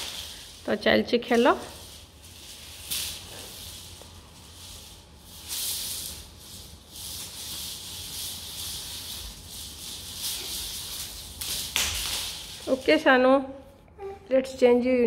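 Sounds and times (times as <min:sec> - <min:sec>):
hula hoop swishing: 0:00.0 - 0:13.3.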